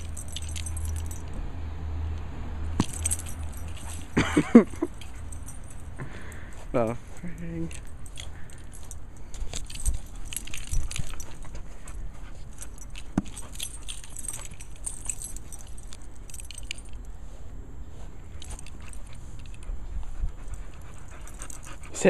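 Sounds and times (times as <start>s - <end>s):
dog chain collar jingling: 0.0s - 1.4s, 2.6s - 17.2s, 18.2s - 22.0s.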